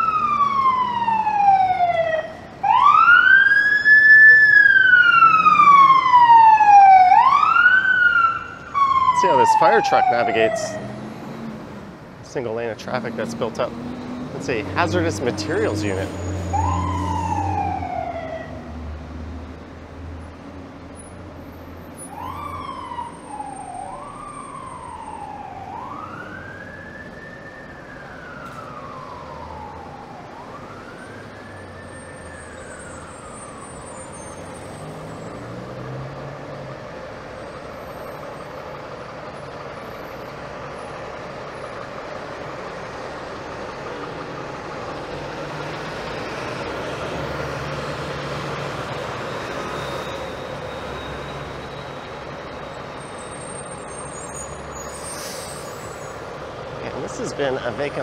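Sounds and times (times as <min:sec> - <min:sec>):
fire truck siren wailing: 0:00.0 - 0:19.9, 0:21.4 - 0:58.0
street traffic noise: 0:00.0 - 0:58.0.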